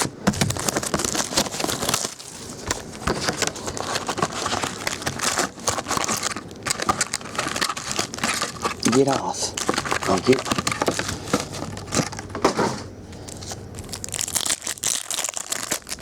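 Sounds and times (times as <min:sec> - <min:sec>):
plastic wrapping tearing and crinkling: 0:00.0 - 0:16.0.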